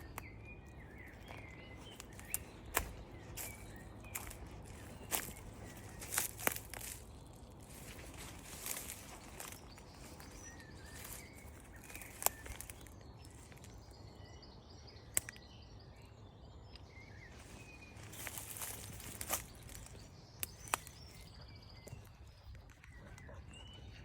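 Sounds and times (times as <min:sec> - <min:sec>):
bird chirps: 0:00.0 - 0:24.0.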